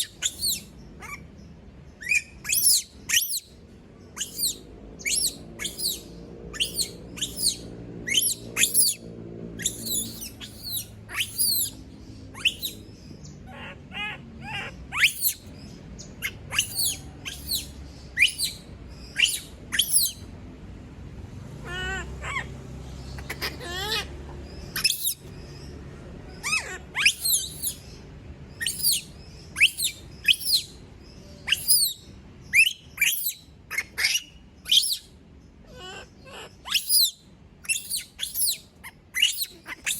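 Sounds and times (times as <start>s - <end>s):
monkey screaming shrill calls: 0.0s - 1.3s, 2.0s - 3.5s, 4.2s - 9.0s, 9.6s - 12.8s, 13.4s - 15.5s, 16.2s - 20.2s, 21.6s - 25.3s, 26.3s - 28.0s, 28.6s - 30.8s, 31.4s - 39.9s
monkey chirping cries: 0.0s - 1.4s, 2.0s - 9.0s, 9.6s - 20.3s, 21.6s - 30.8s, 31.4s - 39.9s.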